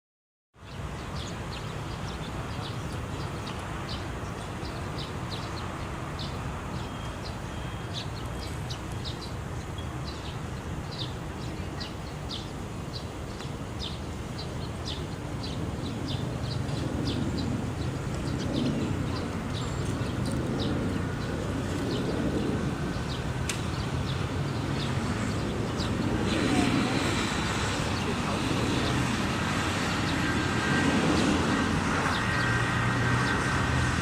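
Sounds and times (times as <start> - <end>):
small birds chirping: 0.6 - 34.0.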